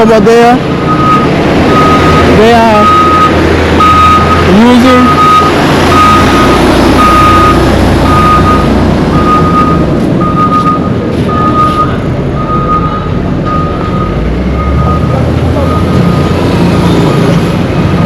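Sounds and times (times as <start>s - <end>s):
low engine rumble: 0.0s - 18.0s
reversing alarm beeping: 0.8s - 18.0s.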